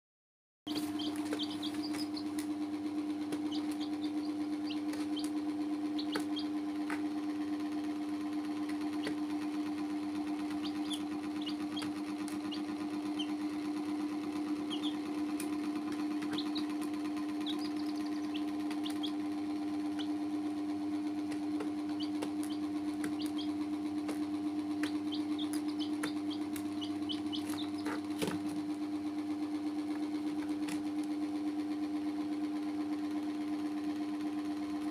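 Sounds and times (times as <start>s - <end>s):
baby chicks peeping: 0.7s - 31.4s
steady mechanical hum: 0.7s - 34.9s.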